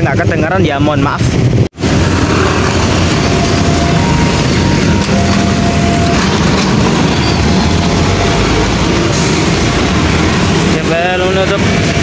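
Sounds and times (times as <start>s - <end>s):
loud steady vehicle noise: 0.0s - 12.0s.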